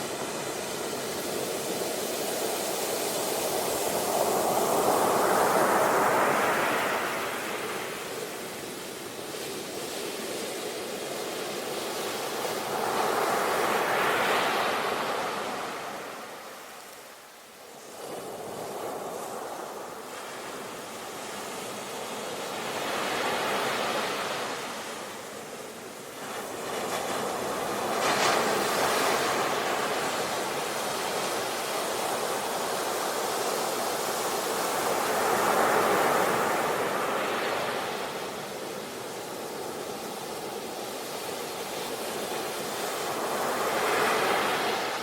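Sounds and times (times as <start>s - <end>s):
sea waves washing on shore: 0.0s - 45.0s.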